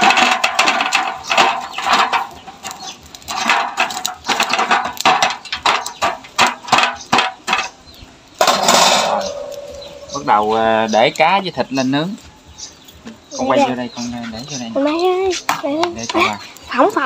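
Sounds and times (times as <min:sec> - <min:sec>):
chickens clucking: 0:00.0 - 0:17.0
wire grill grate clattering: 0:00.0 - 0:17.0.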